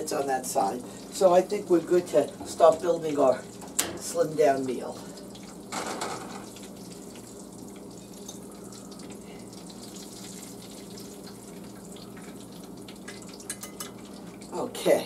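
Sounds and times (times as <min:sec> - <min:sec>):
chicken sizzling in a skillet: 0:00.0 - 0:15.0.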